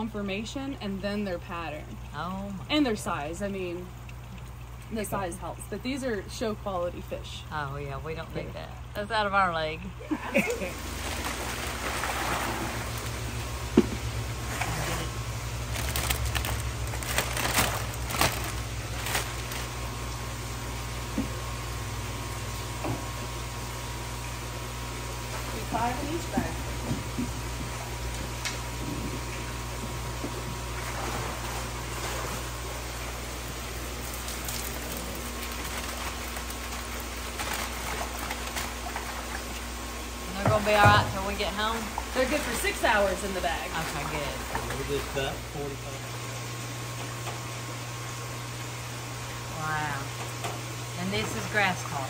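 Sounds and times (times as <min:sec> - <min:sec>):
fish tank pumps humming: 0:00.0 - 0:52.0.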